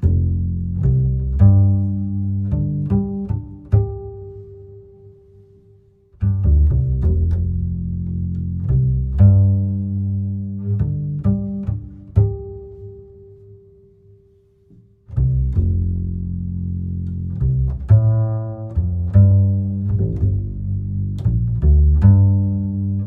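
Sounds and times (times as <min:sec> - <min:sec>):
slow deep soothing music: 0:00.0 - 0:23.0.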